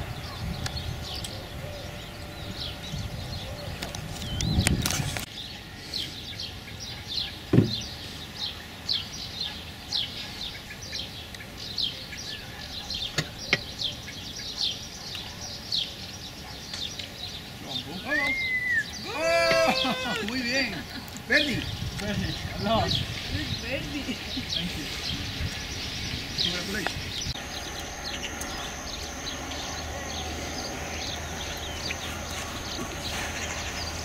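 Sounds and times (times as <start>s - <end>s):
bird chirping: 0.0s - 34.0s.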